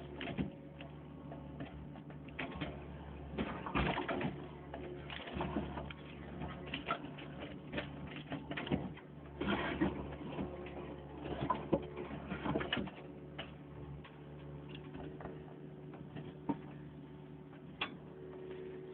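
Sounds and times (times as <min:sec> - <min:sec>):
backhoe engine running: 0:00.0 - 0:18.9.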